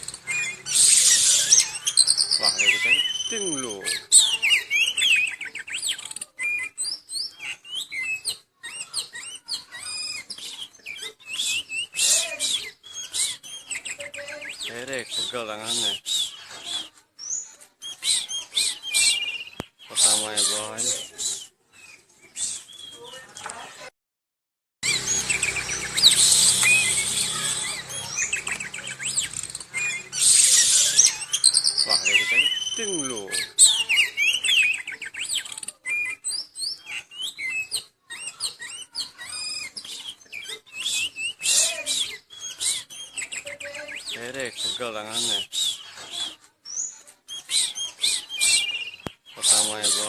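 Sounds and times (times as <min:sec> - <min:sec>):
songbird singing: 0:00.0 - 0:23.3, 0:24.8 - 0:50.0.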